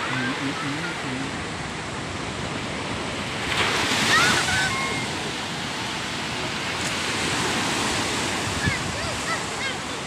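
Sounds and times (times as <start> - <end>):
ocean waves breaking on beach: 0.0 - 10.0.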